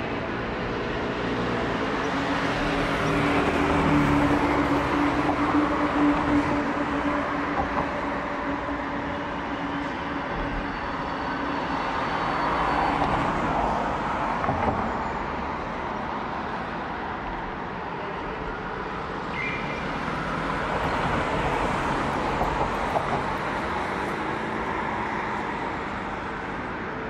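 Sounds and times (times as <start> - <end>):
railway station din: 0.0 - 27.0
road traffic noise: 0.0 - 27.0.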